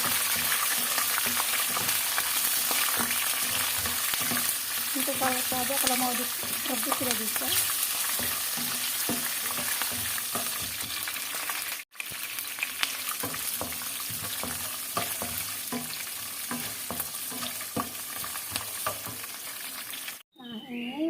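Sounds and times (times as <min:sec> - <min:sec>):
peanuts frying in hot oil: 0:00.0 - 0:20.2.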